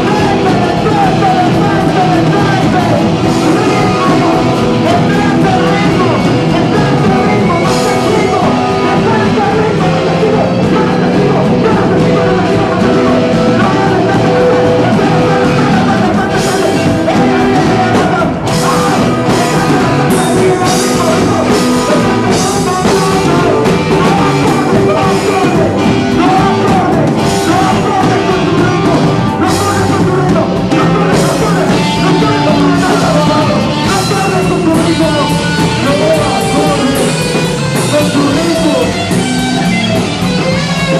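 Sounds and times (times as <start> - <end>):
drums and cymbals hits: 0.0 - 40.9
live band playing noise rock: 0.0 - 40.9.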